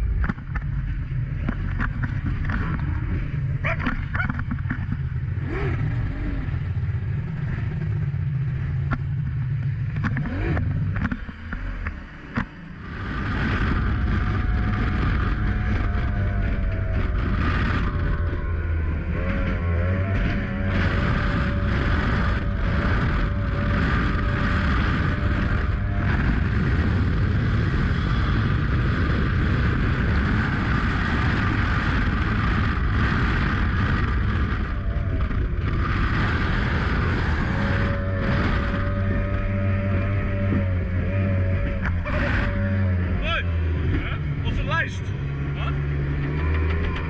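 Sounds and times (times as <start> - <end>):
heavy wind: 0.0 - 47.0
outboard motor at high speed: 0.0 - 47.0.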